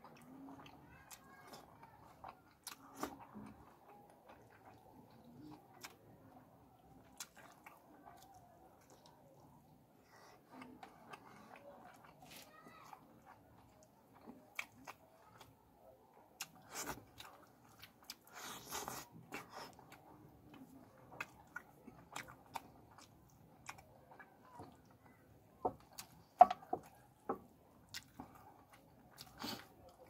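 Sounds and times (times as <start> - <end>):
man eating with wet smacks: 2.2 - 6.1, 6.7 - 9.5, 10.4 - 15.6, 16.2 - 30.0.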